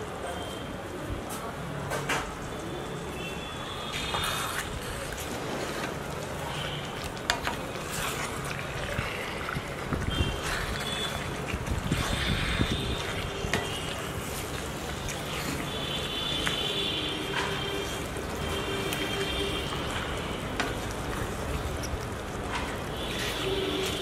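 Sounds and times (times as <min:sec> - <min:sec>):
gravy squelching and sizzling: 0:03.1 - 0:24.0.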